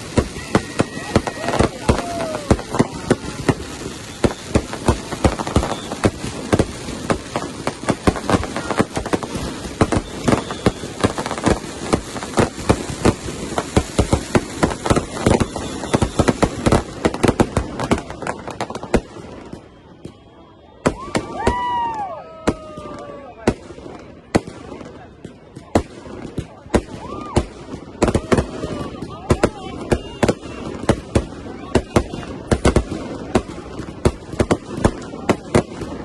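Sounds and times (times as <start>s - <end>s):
fireworks and firecrackers banging: 0.0s - 36.0s.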